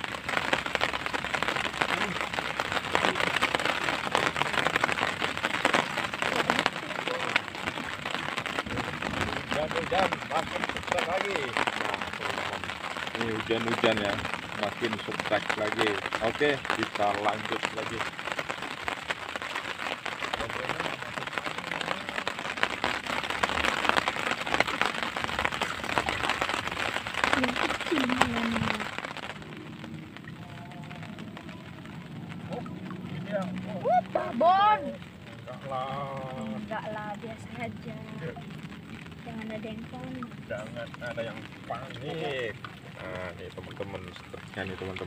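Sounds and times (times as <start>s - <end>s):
rain falling on water: 0.0s - 45.0s.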